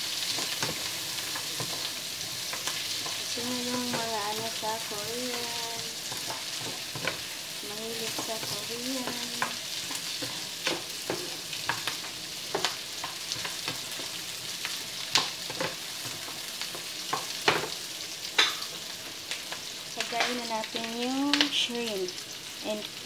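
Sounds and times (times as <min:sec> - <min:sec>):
vegetables sizzling in a frying pan: 0:00.0 - 0:23.0.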